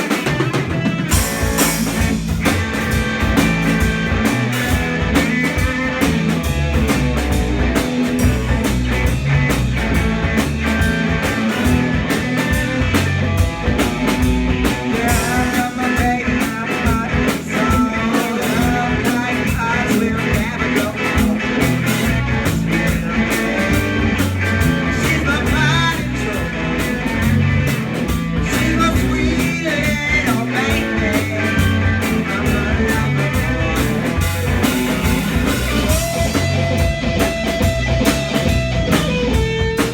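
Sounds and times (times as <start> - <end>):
electric guitar lines: 0.0 - 39.9
live rock band playing: 0.0 - 39.9.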